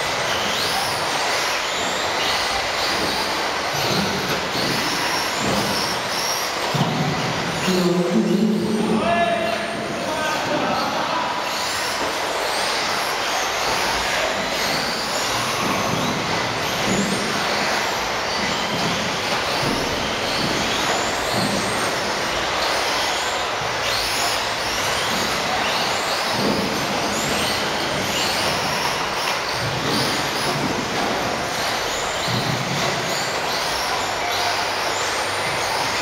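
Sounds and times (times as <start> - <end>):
rc car motors whining: 0.0 - 36.0.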